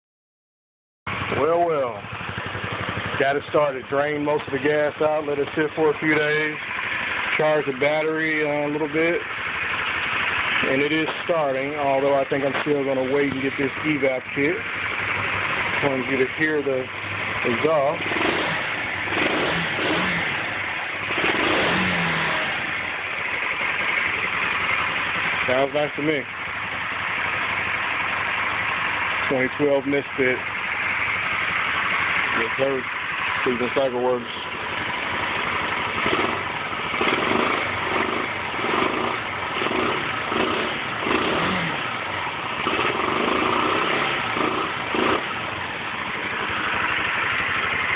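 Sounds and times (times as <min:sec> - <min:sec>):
motorcycle engine revving: 0:01.1 - 0:47.9.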